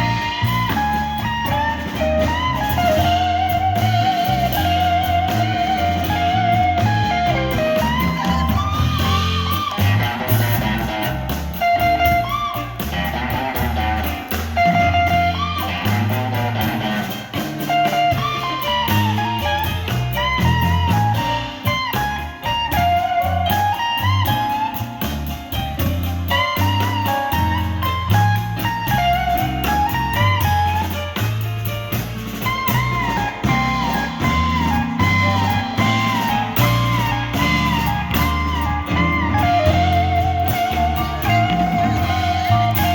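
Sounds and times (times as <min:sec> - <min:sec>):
bass and drums: 0:00.0 - 0:42.9
blues guitar lead: 0:00.0 - 0:42.9.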